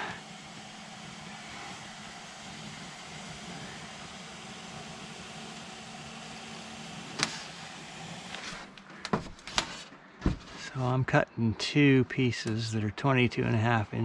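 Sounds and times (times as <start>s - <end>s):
cooling fan whirring: 0.0s - 11.0s, 11.6s - 14.0s.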